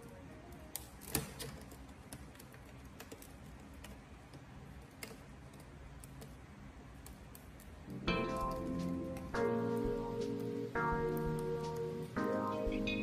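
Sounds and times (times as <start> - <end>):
fingers clicking tablet parts: 0.0 - 13.0.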